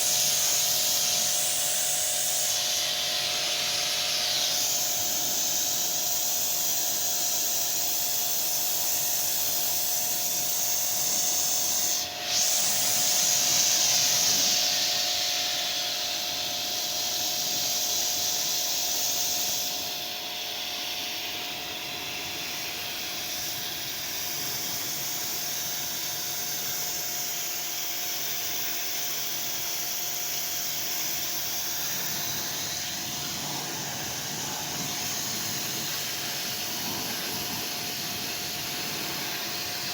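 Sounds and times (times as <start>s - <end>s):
high-pressure water spray hissing: 0.0s - 39.9s.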